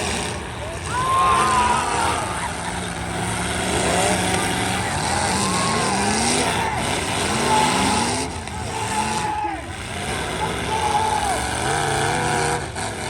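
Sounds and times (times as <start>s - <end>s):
car engines revving: 0.0s - 13.0s
steady background din: 0.0s - 13.0s.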